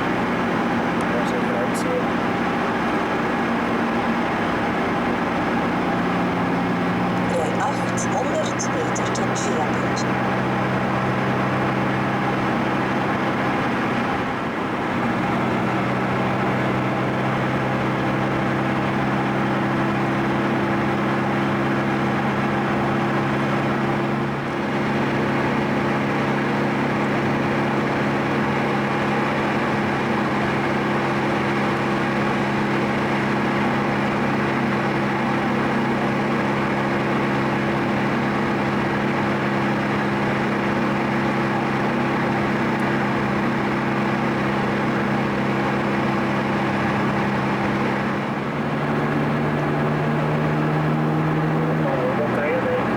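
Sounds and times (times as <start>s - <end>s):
car engine drone inside cabin: 0.0s - 52.9s.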